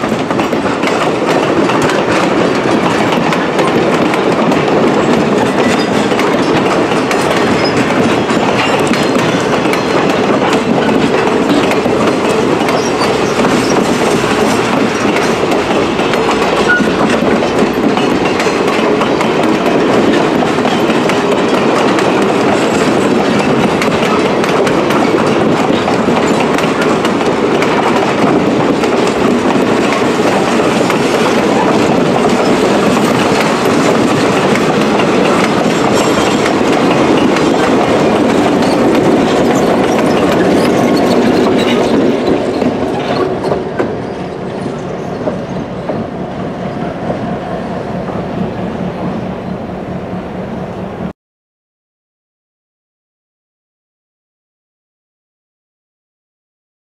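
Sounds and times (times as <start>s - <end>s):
train wheels clicking over rail joints: 0.0s - 50.0s.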